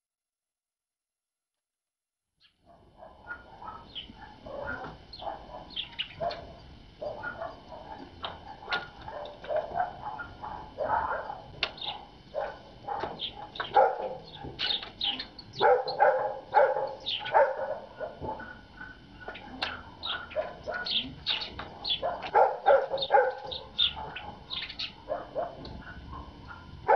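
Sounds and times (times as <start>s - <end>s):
animal yelping calls: 3.0s - 26.9s.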